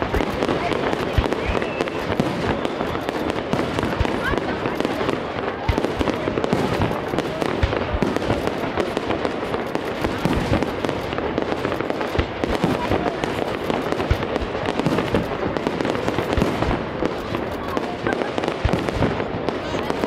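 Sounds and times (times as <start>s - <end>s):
fireworks bursts and bangs: 0.0s - 20.0s
heavy fireworks booms: 0.0s - 20.0s.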